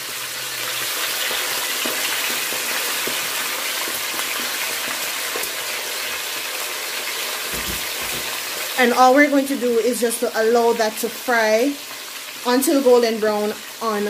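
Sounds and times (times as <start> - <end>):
fish deep-frying in oil: 0.0 - 14.0.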